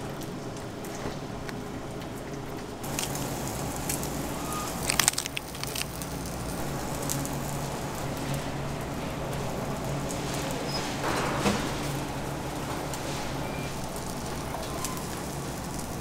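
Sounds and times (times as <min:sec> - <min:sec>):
steady low hum: 0:01.6 - 0:16.0
lettuce leaves crackling: 0:02.8 - 0:16.0.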